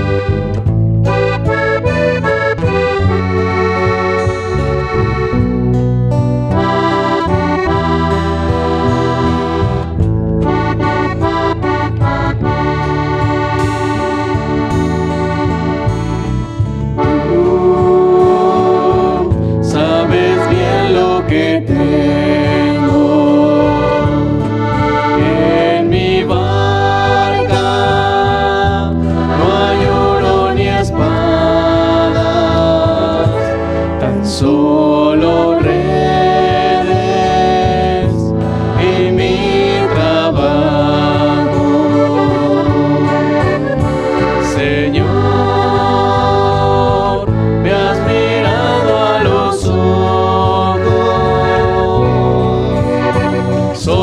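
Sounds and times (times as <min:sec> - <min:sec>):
voices singing a hymn: 0:00.0 - 0:05.3, 0:06.6 - 0:15.9, 0:16.9 - 0:54.0
button accordion: 0:00.0 - 0:54.0
electric bass: 0:00.0 - 0:54.0
guitar: 0:00.0 - 0:54.0.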